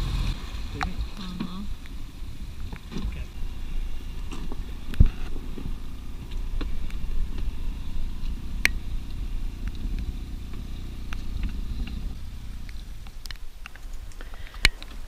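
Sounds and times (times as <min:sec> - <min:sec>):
boat motor rumbling: 0:00.0 - 0:13.0.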